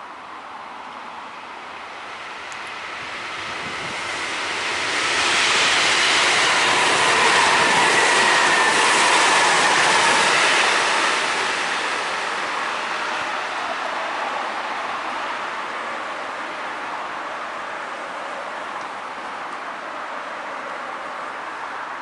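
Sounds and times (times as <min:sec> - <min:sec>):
train passing on track: 0:00.0 - 0:22.0.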